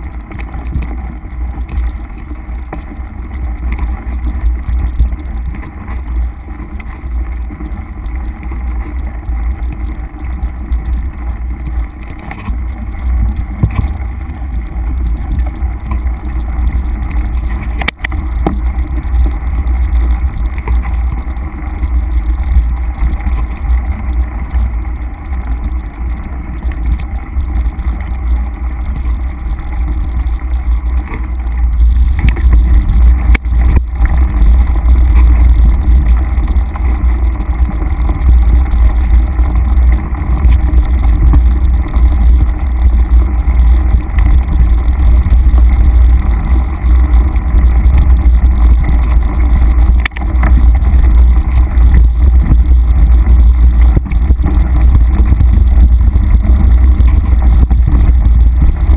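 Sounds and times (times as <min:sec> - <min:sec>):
bike ride rumble on dirt: 0:00.0 - 0:58.9
wind buffeting microphone: 0:00.0 - 0:58.9.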